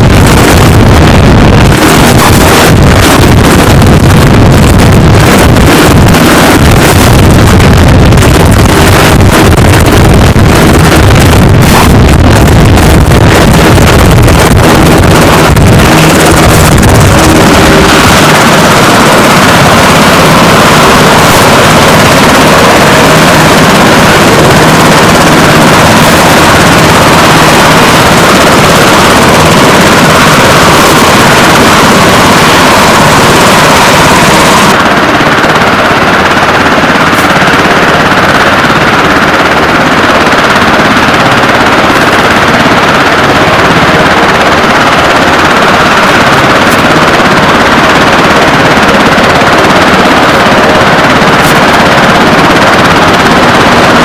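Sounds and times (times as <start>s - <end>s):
helicopter rotor running: 0.0s - 54.0s.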